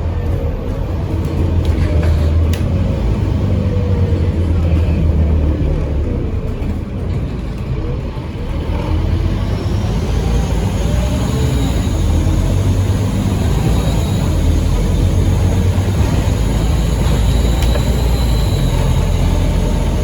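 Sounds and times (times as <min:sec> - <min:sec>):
bus engine droning: 0:00.0 - 0:20.0.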